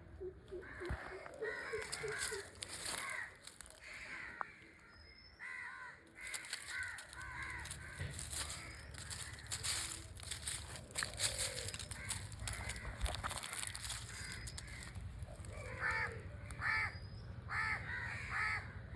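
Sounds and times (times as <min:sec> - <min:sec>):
crows cawing: 0:00.5 - 0:18.9.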